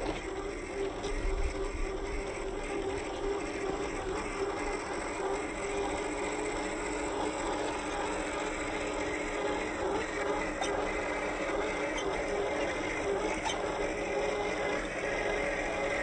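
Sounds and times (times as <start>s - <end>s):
electric motor and gears whirring: 0.0s - 16.0s.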